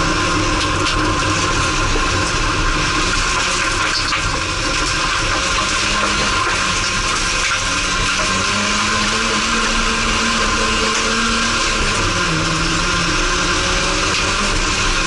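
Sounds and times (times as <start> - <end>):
race car engine under load: 0.0 - 15.0.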